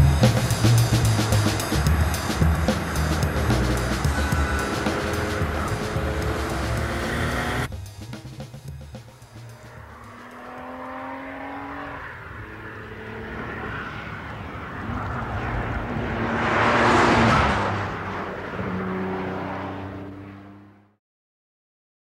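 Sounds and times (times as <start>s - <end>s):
sports car engine passing by: 0.0s - 7.7s, 8.4s - 21.0s.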